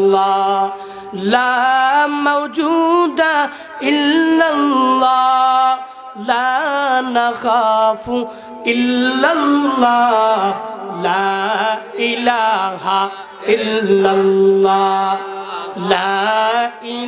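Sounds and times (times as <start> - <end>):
man chanting over microphone: 0.0 - 17.0.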